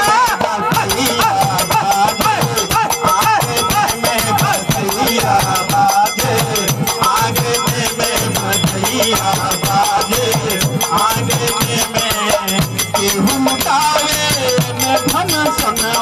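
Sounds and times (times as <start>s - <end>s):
harmonium: 0.0s - 16.0s
man singing: 0.0s - 16.0s
rattling hand percussion: 0.0s - 16.0s.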